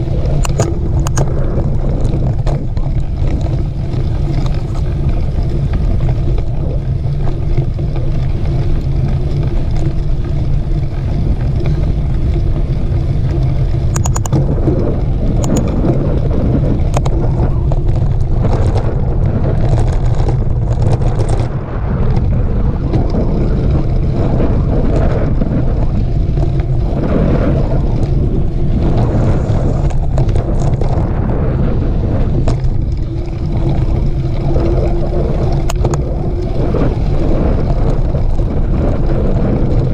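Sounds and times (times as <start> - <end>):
bike clicks and rattles: 0.0 - 39.9
bike rumbling on dirt trail: 0.0 - 39.9
wind on microphone: 0.0 - 39.9.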